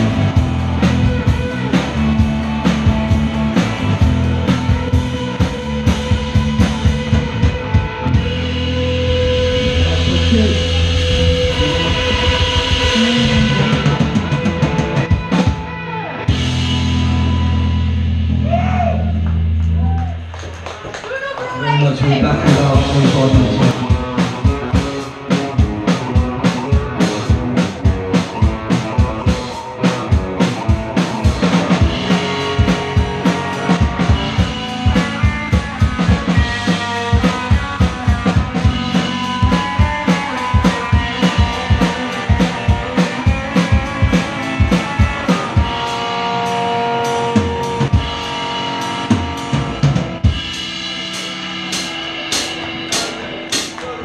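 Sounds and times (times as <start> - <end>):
hard-hit drum beat: 0.0 - 18.7, 22.2 - 53.8
live rock band playing: 0.0 - 54.0.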